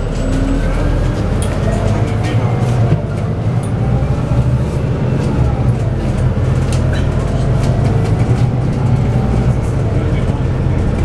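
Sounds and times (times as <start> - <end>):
bus engine drone: 0.0 - 11.0
faint drivetrain whine: 0.0 - 11.0
bodywork rattles and clicks: 0.1 - 11.0.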